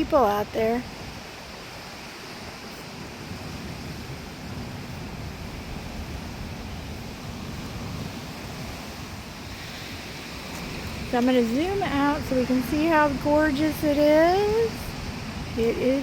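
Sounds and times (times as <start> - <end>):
ocean surf rushing: 0.0 - 16.0
wind buffeting microphone: 0.0 - 16.0.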